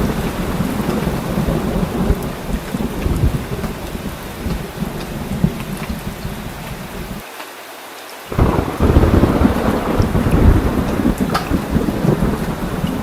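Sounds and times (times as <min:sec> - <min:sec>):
rolling thunder rumble: 0:00.0 - 0:07.2, 0:08.3 - 0:13.0
heavy rain: 0:00.0 - 0:13.0.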